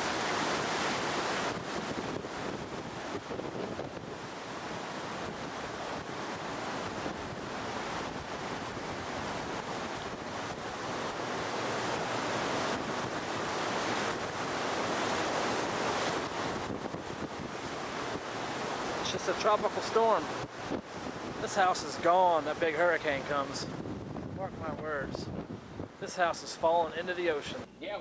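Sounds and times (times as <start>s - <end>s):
wind buffeting microphone: 0.0s - 19.0s, 20.2s - 21.5s, 23.1s - 26.0s
heavy surf breaking: 0.0s - 27.7s.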